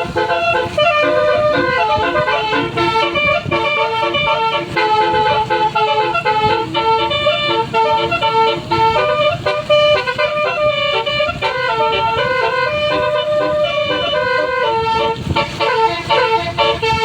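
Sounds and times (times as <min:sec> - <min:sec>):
bus horn playing tune: 0:00.0 - 0:17.0.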